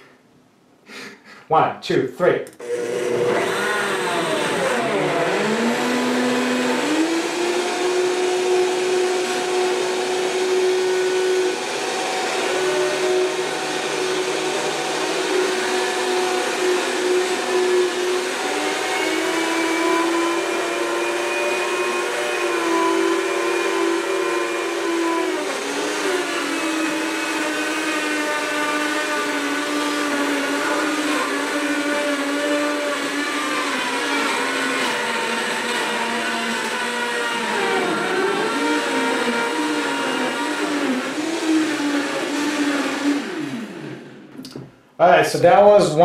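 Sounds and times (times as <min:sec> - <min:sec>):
blenders crushing ice: 0:02.6 - 0:44.6.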